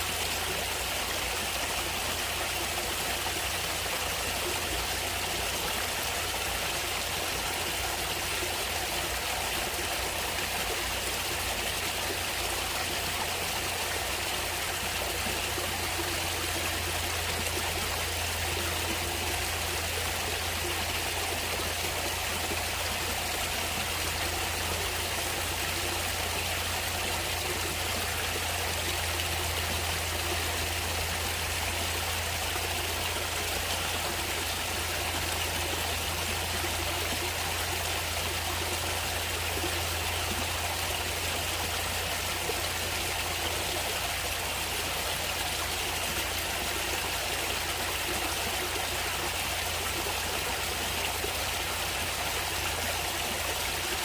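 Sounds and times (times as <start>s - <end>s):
stream flowing and trickling: 0.0s - 54.0s.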